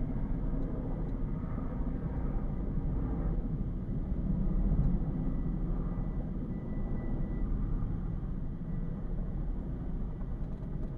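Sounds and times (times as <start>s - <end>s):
helicopter engine and rotors droning: 0.0s - 10.9s.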